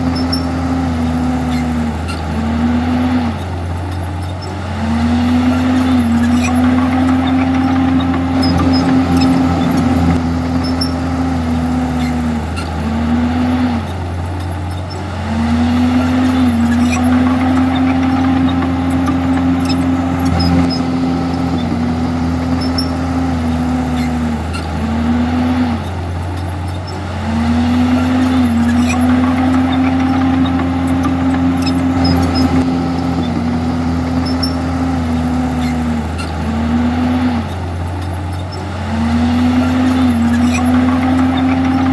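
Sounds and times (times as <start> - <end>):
bulldozer diesel engine labouring: 0.0 - 41.9.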